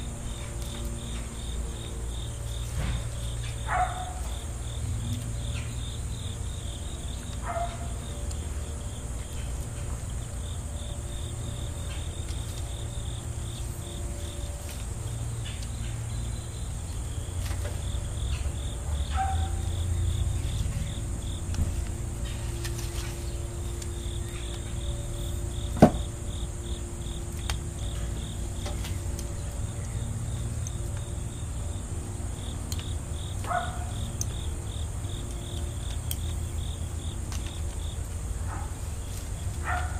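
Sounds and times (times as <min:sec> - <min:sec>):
insects chirping: 0:00.0 - 0:39.9
steady high buzz: 0:00.0 - 0:39.9.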